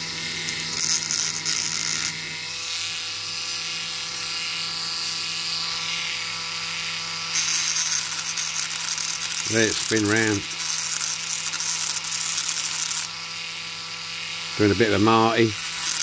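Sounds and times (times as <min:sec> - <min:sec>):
rotary tool grinding metal: 0:00.0 - 0:16.0.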